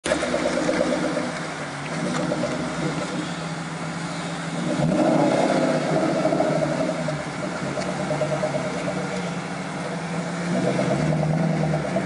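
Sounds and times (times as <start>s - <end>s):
car engine at high revs: 0.0s - 12.0s
tyres spinning on wet pavement: 0.0s - 12.0s.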